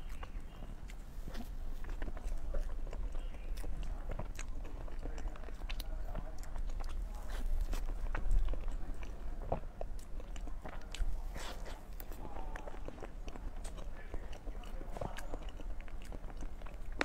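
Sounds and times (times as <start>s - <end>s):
person chewing pastry: 0.0s - 17.0s.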